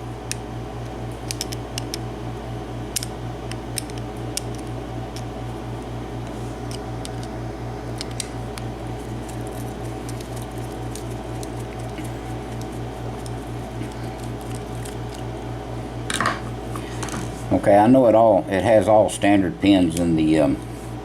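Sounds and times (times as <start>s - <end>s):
pulsing low hum: 0.0s - 17.6s.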